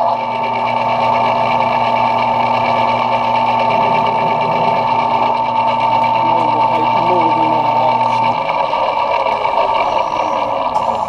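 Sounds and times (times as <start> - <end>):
metal lathe whining: 0.0 - 11.0.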